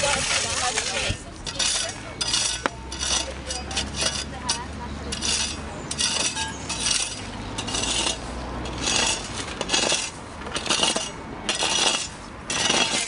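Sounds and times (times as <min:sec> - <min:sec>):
spades digging into gravel: 0:00.0 - 0:13.0.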